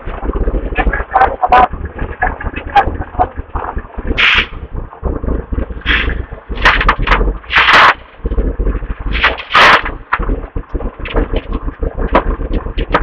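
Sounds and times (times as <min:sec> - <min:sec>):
heavy rumble: 0:00.0 - 0:13.0
wind buffeting microphone: 0:00.0 - 0:13.0.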